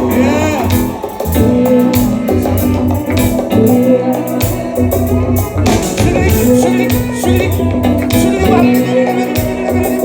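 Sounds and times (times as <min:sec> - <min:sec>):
reggae instrumental music: 0:00.0 - 0:10.0.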